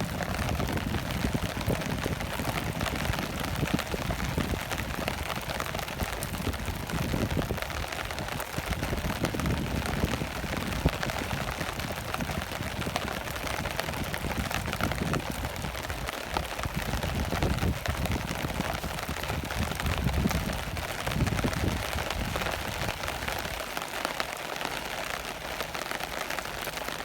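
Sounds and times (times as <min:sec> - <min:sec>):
rain drops pattering: 0:00.0 - 0:27.0.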